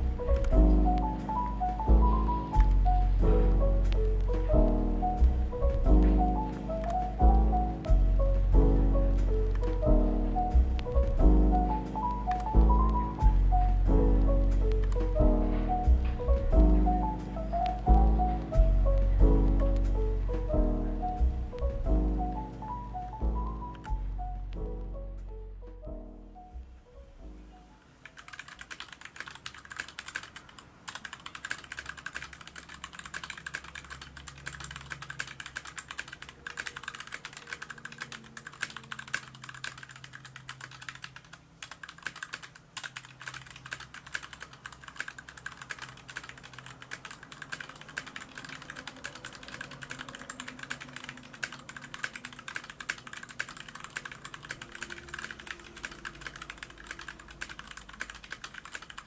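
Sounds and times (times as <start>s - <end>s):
mechanical keyboard typing: 0.0s - 24.0s, 28.0s - 59.0s.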